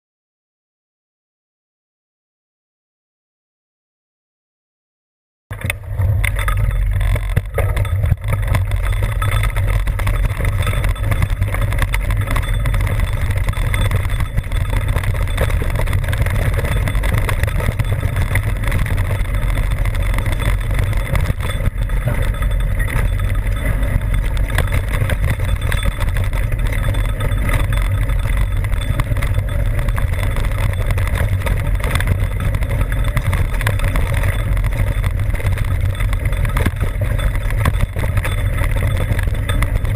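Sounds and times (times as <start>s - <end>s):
bike tyres rumbling on rocky trail: 5.5s - 39.9s.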